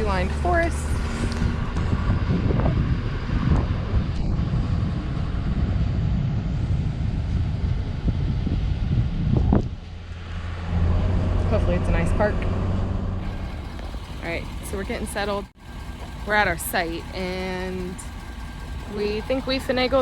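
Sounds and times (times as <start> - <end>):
truck engine and road rumble: 0.0 - 20.0
wind buffeting microphone: 0.0 - 20.0.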